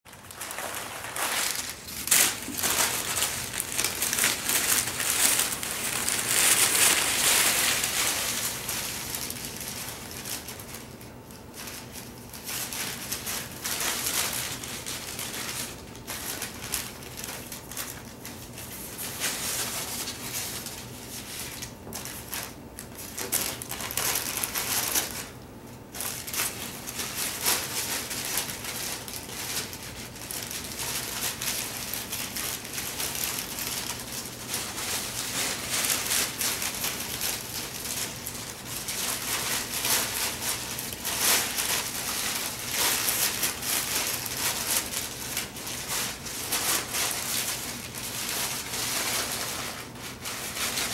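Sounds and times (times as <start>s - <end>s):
packing paper crinkling and rustling: 0.1s - 50.9s.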